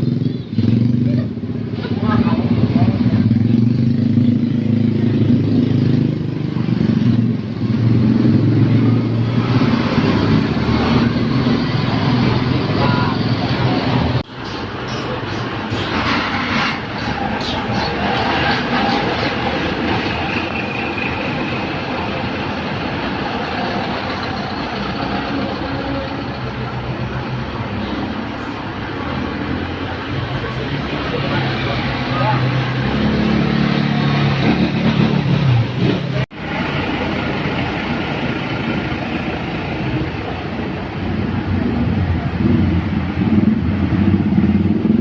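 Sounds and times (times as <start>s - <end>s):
vehicle engine humming: 0.0s - 45.0s.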